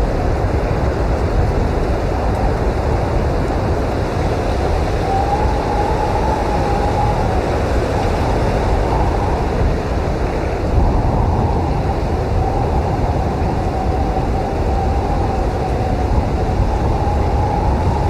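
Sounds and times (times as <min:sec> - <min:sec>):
blizzard wind rushing: 0:00.0 - 0:18.0
whistling howl of wind: 0:00.0 - 0:18.0.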